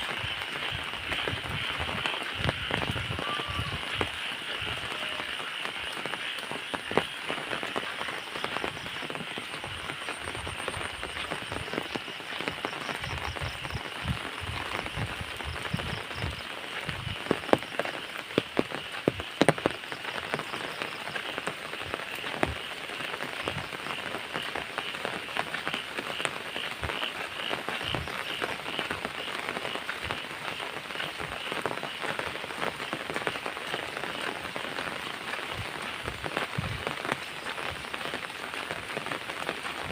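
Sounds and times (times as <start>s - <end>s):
raindrops tapping nearby: 0.0s - 39.9s
steady rain falling: 0.0s - 39.9s.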